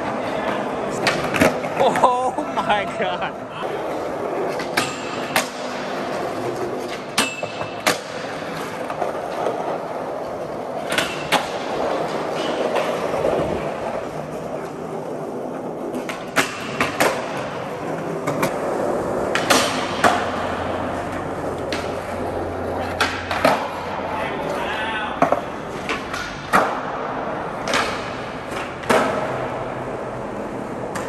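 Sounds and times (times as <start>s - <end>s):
skateboard clacks: 0.0s - 31.0s
skateboard wheels rolling on concrete: 0.0s - 31.0s.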